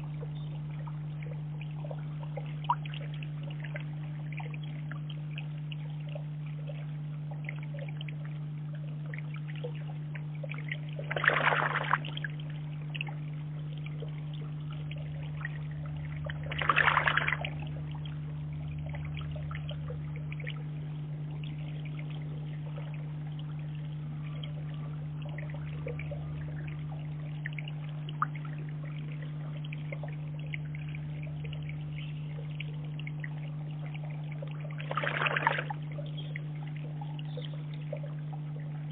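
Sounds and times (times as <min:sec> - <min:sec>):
faint trickling water: 0:00.0 - 0:38.9
pigeons splashing in pond: 0:00.0 - 0:38.9
steady low hum: 0:00.0 - 0:38.9.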